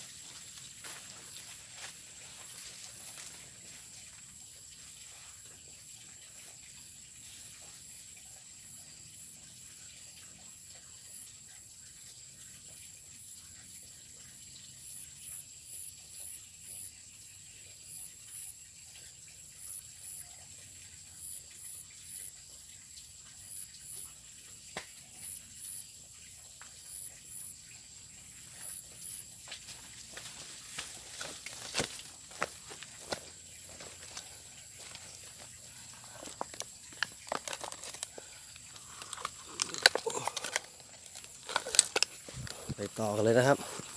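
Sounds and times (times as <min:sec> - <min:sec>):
insect chirps: 0:00.0 - 0:43.9
insects droning: 0:00.0 - 0:43.9.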